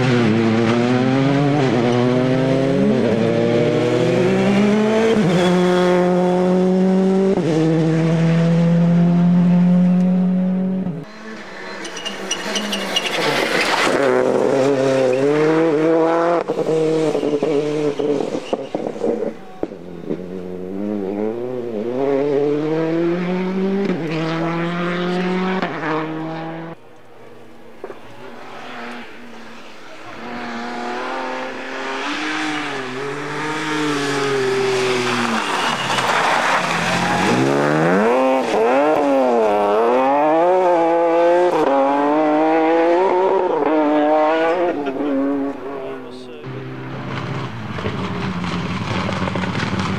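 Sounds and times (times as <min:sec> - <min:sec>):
rally car engines at full throttle: 0:00.0 - 0:49.9.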